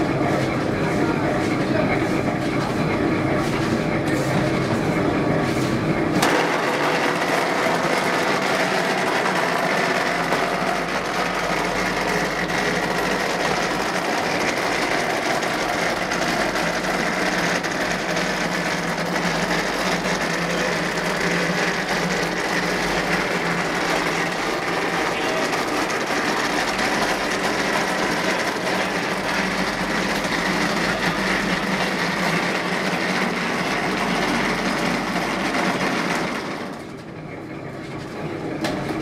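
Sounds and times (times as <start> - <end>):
wall rendering machine running: 0.0 - 39.0.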